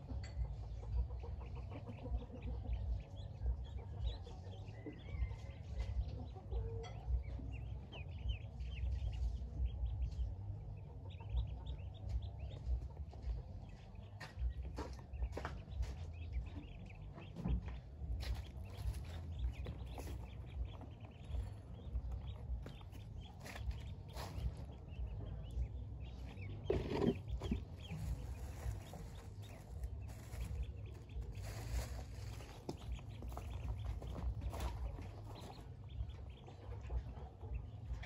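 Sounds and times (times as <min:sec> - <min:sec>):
ducklings peeping: 0:00.0 - 0:38.0
low rumble: 0:06.9 - 0:38.0.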